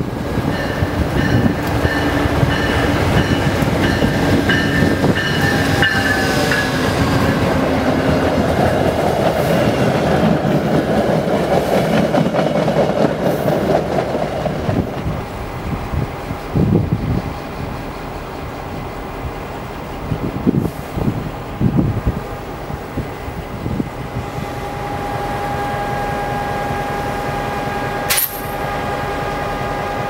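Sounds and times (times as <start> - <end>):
steady train rumble: 0.0 - 30.0
train wheels on rails: 0.0 - 30.0.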